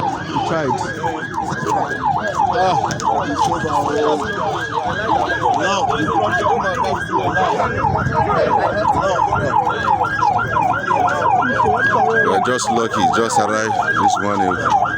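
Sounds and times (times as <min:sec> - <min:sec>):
second siren: 0:00.0 - 0:14.9
siren yelping: 0:00.0 - 0:14.9.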